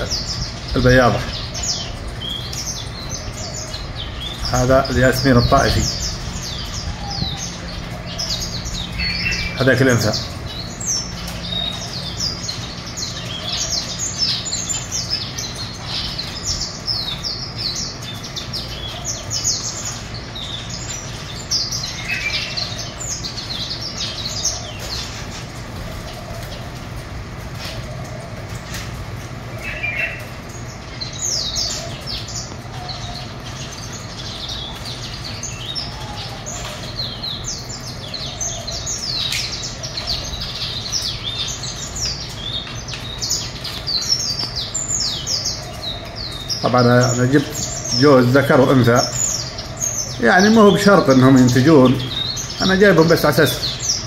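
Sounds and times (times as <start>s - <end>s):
cage birds chirping and singing: 0.0s - 54.0s.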